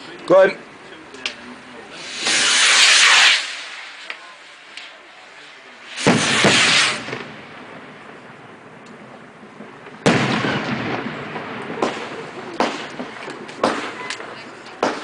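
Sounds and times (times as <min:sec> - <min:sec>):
fireworks bangs: 0:01.9 - 0:15.0.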